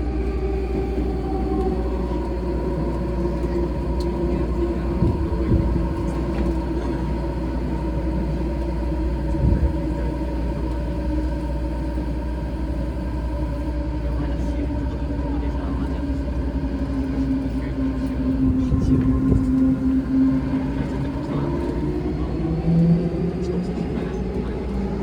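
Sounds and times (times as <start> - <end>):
train motor hum: 0.0 - 25.0
wheels rumbling on rail: 0.0 - 25.0.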